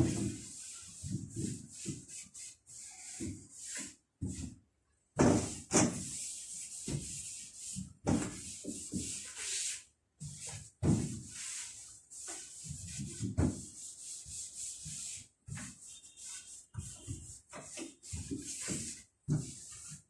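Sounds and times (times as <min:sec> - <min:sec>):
rubbing strokes on wooden cabinets: 0:00.0 - 0:04.6, 0:05.2 - 0:20.0.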